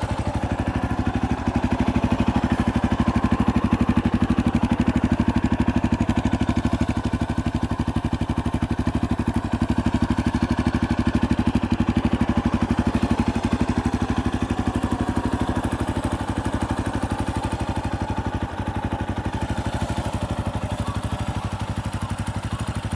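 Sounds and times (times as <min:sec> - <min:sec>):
motorcycle engine idling: 0:00.0 - 0:22.9.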